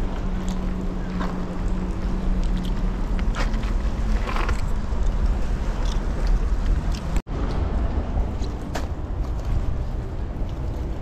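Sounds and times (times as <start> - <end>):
engine humming: 0.0 - 11.0
wind rumble on microphone: 0.0 - 11.0.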